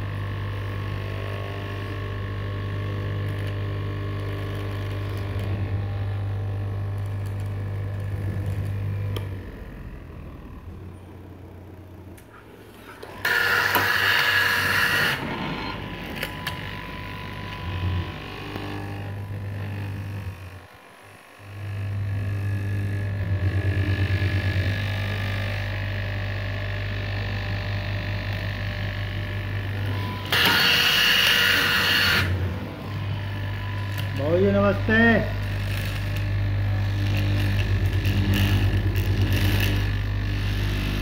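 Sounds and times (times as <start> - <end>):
cloth cutting machine humming: 0.0 - 41.0.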